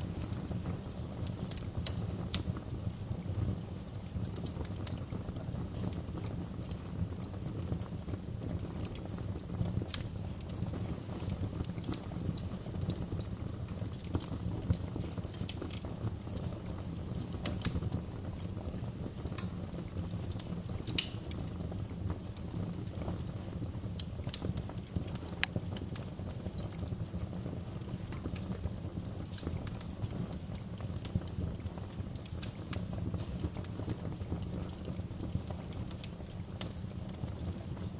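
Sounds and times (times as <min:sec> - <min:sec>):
low rumble of flames: 0:00.0 - 0:37.9
wood fire crackling: 0:00.0 - 0:37.9.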